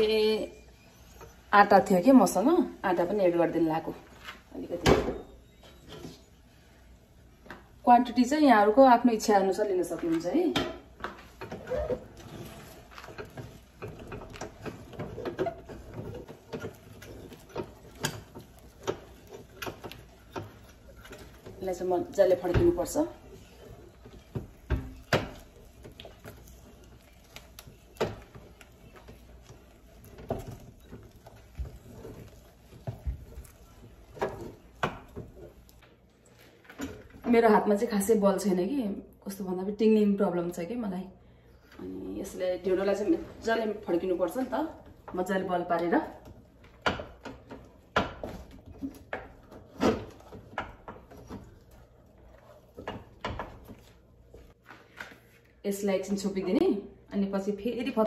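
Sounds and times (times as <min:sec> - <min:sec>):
spatula stirring thick dough: 0:00.0 - 0:38.5, 0:41.8 - 0:56.6.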